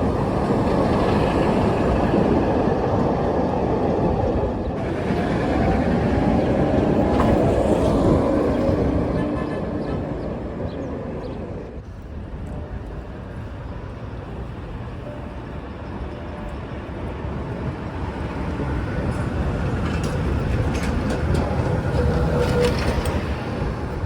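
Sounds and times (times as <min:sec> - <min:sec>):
tram clicks: 0:00.0 - 0:24.0
tram rumbling on rails: 0:00.0 - 0:24.0.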